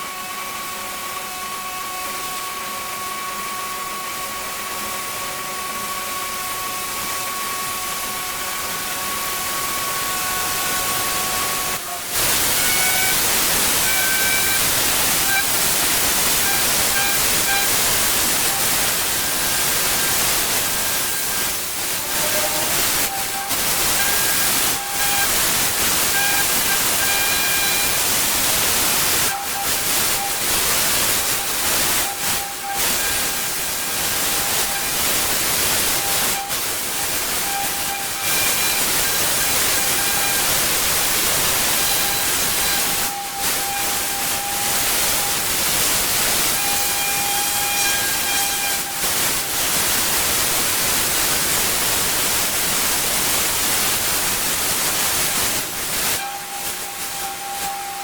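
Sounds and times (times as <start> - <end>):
thin machine whine: 0.0 - 50.8
pressure washer spraying water: 10.4 - 58.0.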